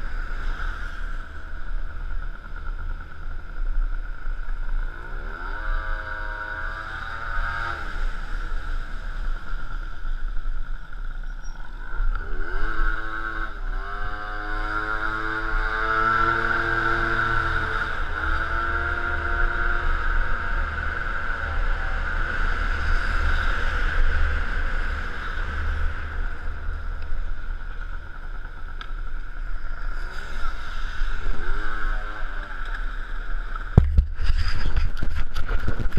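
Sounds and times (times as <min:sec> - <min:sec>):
low wind rumble: 0:00.0 - 0:35.9.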